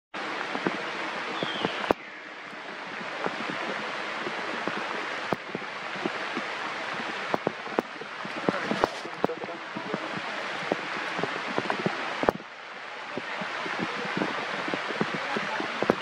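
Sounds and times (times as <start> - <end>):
outdoor hiss: 0.2 - 16.0.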